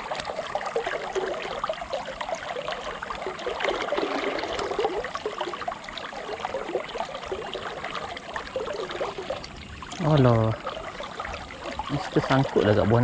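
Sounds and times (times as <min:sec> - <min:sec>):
river flowing and gurgling: 0:00.0 - 0:13.0.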